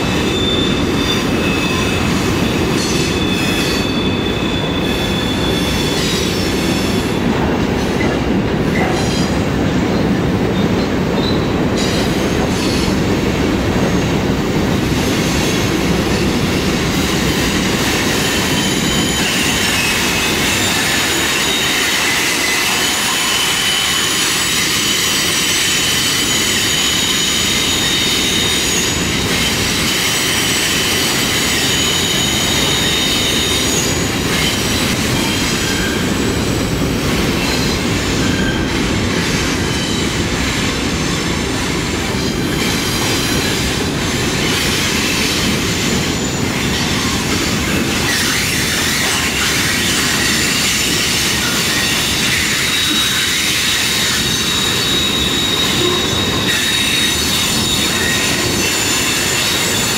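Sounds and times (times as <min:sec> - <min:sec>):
high wheel squeal: 0:00.0 - 0:07.2, 0:15.0 - 0:36.5, 0:37.2 - 0:41.2, 0:42.1 - 0:59.9
train wheels rumbling on rails: 0:00.0 - 0:59.9.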